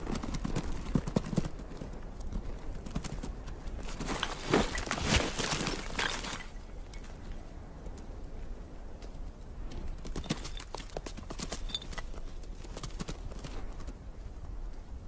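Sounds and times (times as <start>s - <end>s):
hooves clattering on rock: 0.0s - 8.1s, 8.9s - 15.0s.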